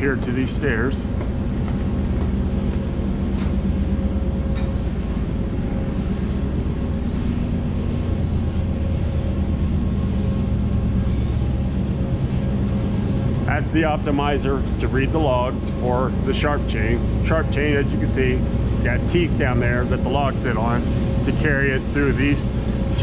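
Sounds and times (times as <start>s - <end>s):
sawmill machinery droning: 0.0s - 23.0s.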